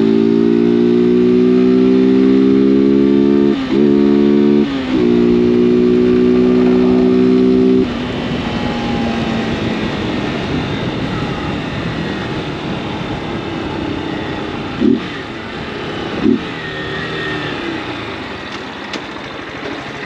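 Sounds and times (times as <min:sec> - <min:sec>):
motorcycle engine revving: 0:00.0 - 0:20.0
wind and road noise: 0:00.0 - 0:20.0.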